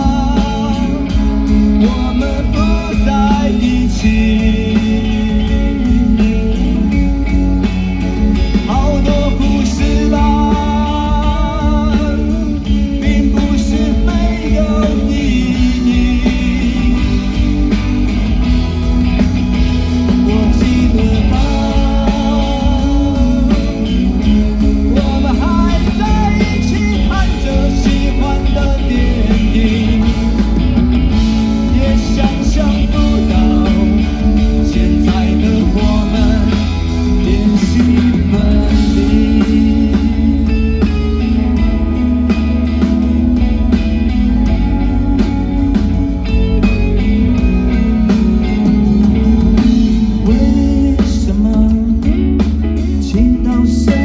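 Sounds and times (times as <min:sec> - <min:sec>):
male lead singer: 0:00.0 - 0:54.0
rock guitars: 0:00.0 - 0:54.0.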